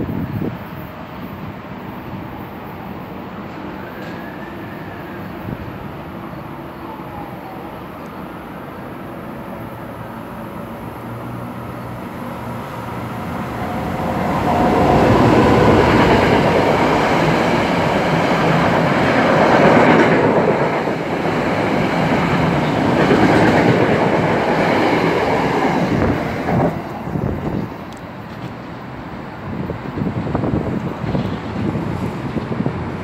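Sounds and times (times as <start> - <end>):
passenger train passing: 0.0 - 33.0.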